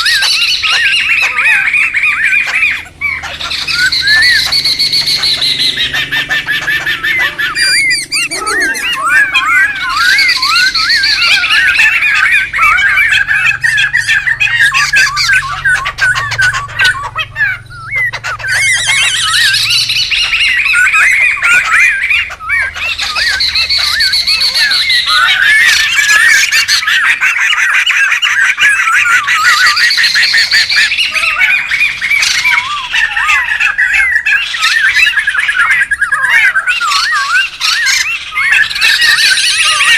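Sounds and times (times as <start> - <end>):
birds chattering and squawking: 0.0 - 39.9.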